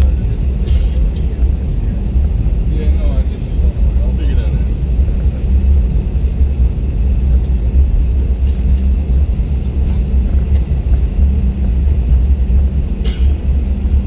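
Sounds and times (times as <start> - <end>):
jet engine rumble in airliner cabin: 0.0 - 14.0.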